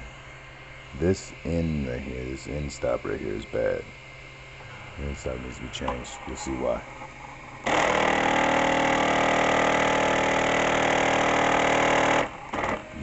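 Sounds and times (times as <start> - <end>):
stepper motor buzzing loudly: 0.7 - 13.0.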